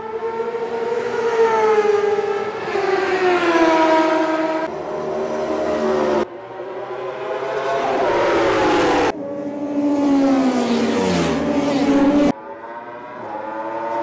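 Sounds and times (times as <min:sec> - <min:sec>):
motorcycles passing at speed: 0:00.2 - 0:14.0.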